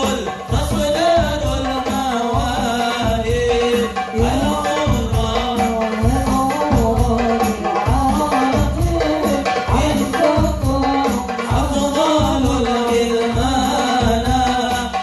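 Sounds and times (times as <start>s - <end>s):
frame drums beating: 0.0s - 15.0s.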